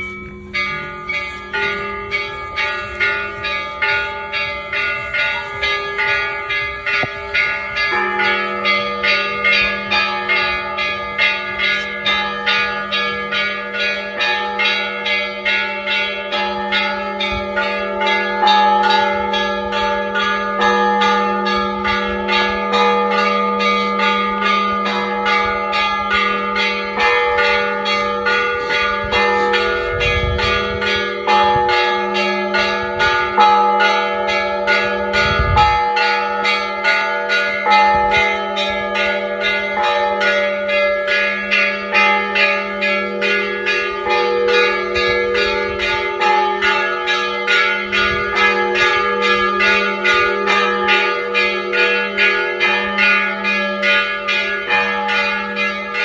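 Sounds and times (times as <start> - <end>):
church bells pealing: 0.0 - 56.0
deep bell humming: 0.0 - 56.0.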